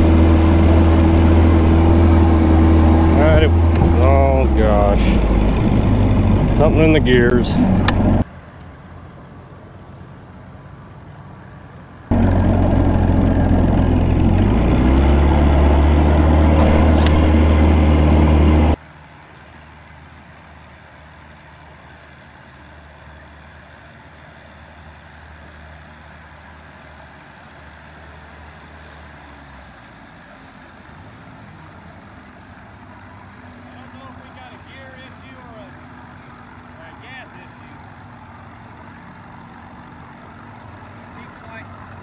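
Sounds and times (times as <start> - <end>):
outboard motor running: 0.0 - 8.2, 12.0 - 42.0.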